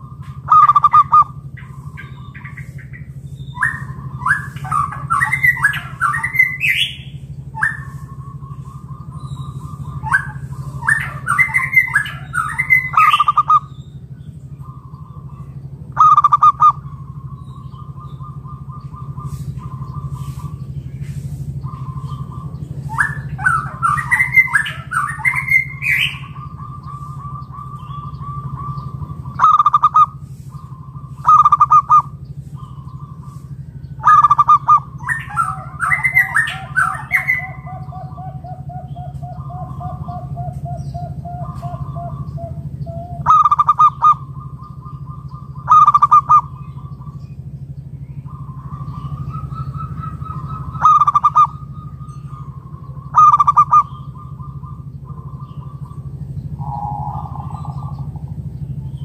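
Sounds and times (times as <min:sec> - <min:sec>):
doves cooing in trills: 0:00.0 - 0:59.0
lower bird trill: 0:00.0 - 0:59.0
steady low hum: 0:00.0 - 0:59.0.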